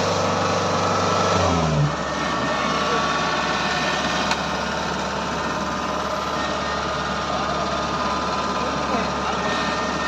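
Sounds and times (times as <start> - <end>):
rising whine: 0.0 - 8.3
combine harvester running: 0.0 - 10.0.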